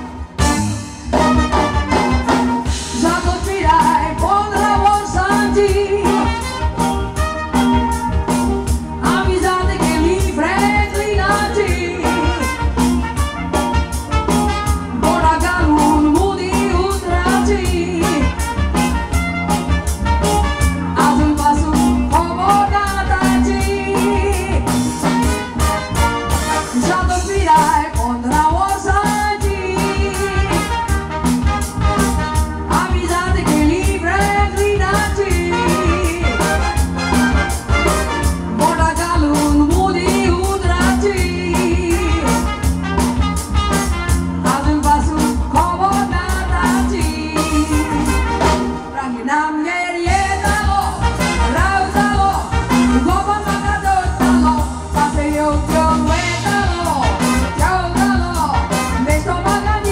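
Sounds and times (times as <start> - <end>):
bass guitar: 0.0 - 59.9
drums: 0.0 - 59.9
live band playing upbeat song: 0.0 - 59.9
woman singing: 2.8 - 7.2, 9.0 - 13.0, 14.8 - 18.9, 20.7 - 25.4, 26.6 - 30.9, 32.0 - 59.9.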